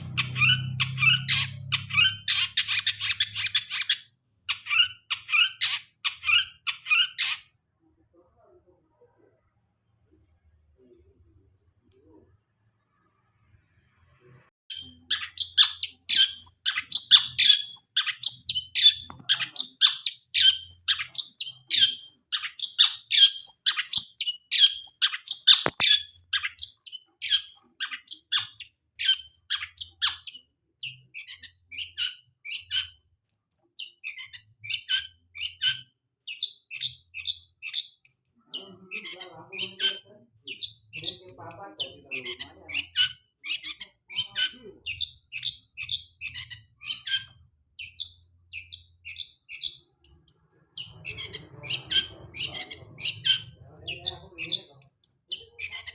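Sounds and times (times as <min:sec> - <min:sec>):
bird chirping and chattering: 0:00.0 - 0:08.2, 0:14.7 - 0:55.9.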